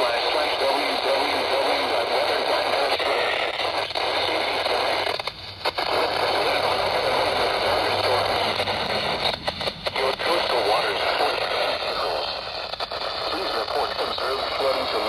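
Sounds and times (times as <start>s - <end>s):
radio static hiss with crackle: 0.0s - 15.0s.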